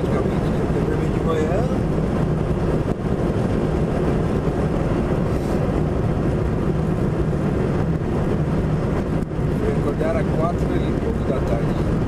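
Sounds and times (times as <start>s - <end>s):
low engine drone: 0.0s - 12.0s
road and tyre noise: 0.0s - 12.0s.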